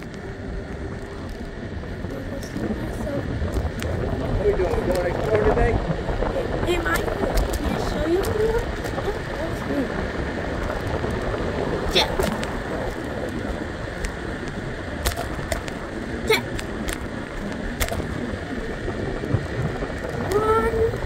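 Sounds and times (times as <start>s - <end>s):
scooter rolling noise: 0.0s - 21.0s
wind rushing over microphone: 0.0s - 21.0s.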